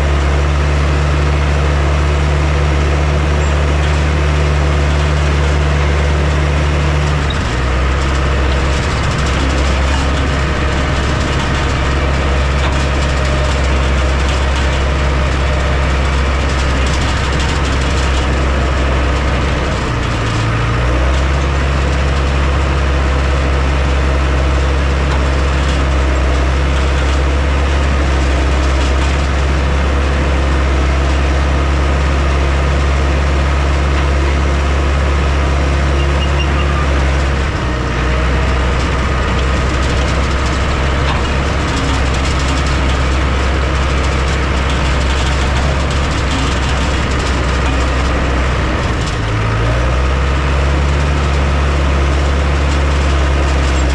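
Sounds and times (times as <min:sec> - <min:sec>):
heavy machine engine drone: 0:00.0 - 0:53.9.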